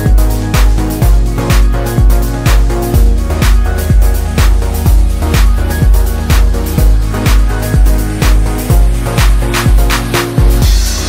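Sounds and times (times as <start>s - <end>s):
kick drum beat: 0.0s - 11.0s.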